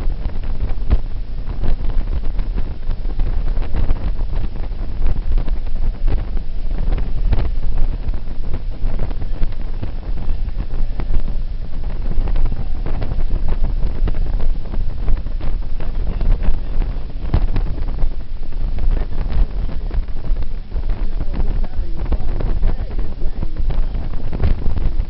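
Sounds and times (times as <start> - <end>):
deep rumble: 0.0 - 25.0
wind buffeting microphone: 0.0 - 25.0.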